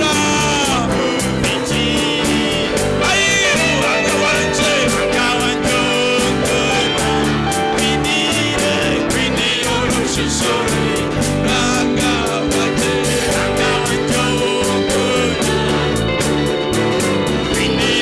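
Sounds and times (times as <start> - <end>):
worship band music: 0.0 - 18.0.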